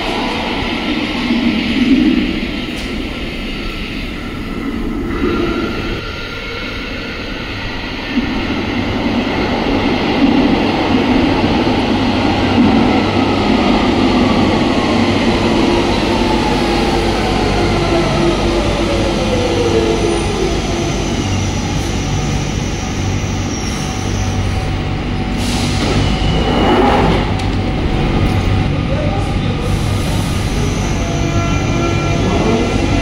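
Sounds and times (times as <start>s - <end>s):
underground train rumbling: 0.0s - 33.0s.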